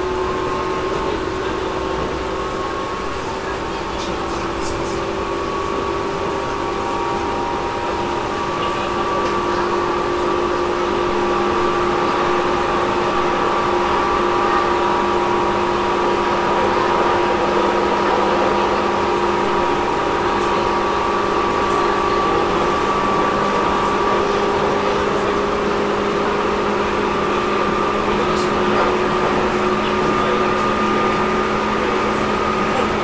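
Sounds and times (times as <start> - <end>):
air conditioning running: 0.0 - 33.0
steady humming tones: 0.0 - 33.0
train rolling rumble: 0.0 - 33.0.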